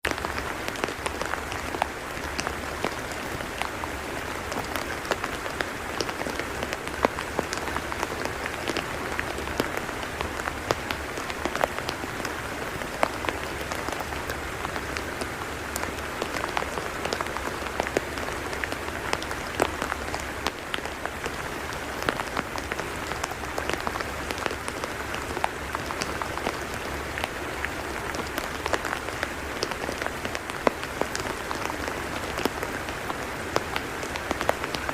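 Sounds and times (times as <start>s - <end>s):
rain on wet mud: 0.0s - 34.9s.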